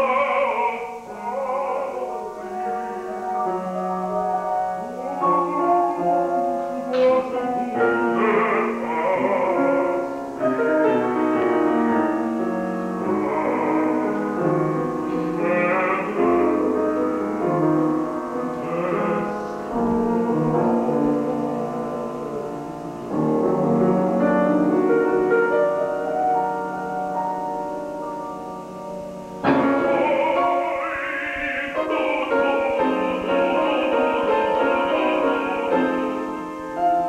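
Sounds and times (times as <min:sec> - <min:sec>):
man singing operatically: 0:00.0 - 0:23.2, 0:29.4 - 0:36.9
grand piano: 0:00.0 - 0:37.0.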